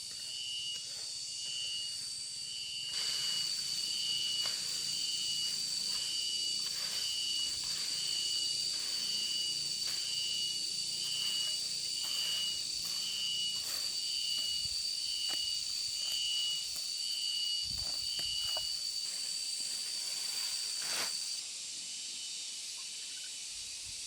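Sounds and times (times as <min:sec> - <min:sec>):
insects droning: 0:00.0 - 0:24.0
pulsing insect chirping: 0:00.0 - 0:24.0.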